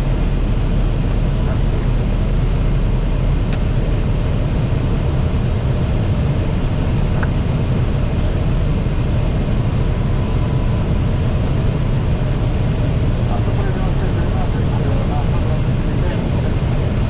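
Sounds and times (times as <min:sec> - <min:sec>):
cockpit airflow and engine rumble: 0:00.0 - 0:17.0.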